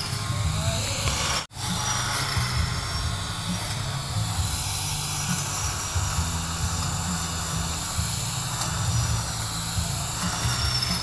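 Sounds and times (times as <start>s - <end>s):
grass trimmer whirring: 0.0s - 11.0s.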